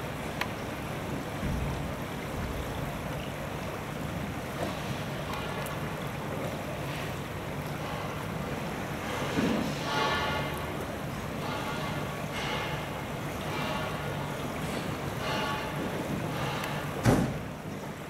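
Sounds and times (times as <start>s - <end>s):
stream rushing over bed: 0.0s - 18.0s.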